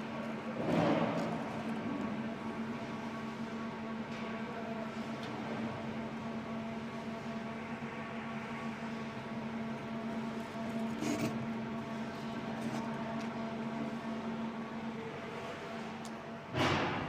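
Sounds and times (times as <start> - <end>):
furnace humming and hissing: 0.0 - 17.0.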